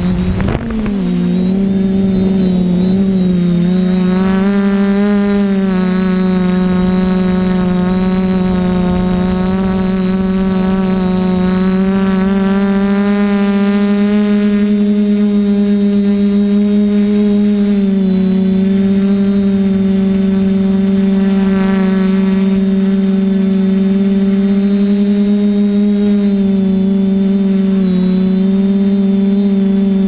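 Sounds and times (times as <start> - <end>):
quadcopter motors buzzing: 0.0 - 30.0.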